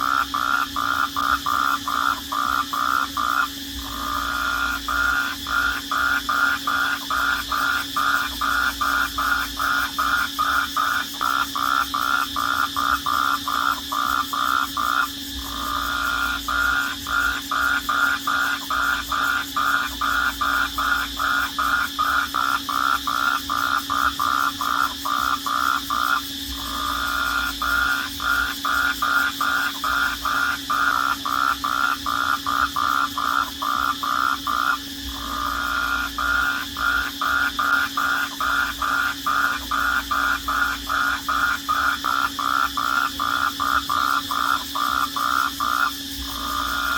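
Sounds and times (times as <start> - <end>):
crickets trilling: 0.0 - 46.9
loud pulsed animal call: 0.0 - 46.9.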